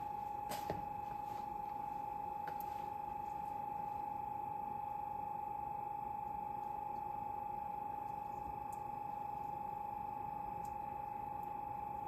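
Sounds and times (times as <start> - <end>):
heater high-pitched whine: 0.0 - 12.0.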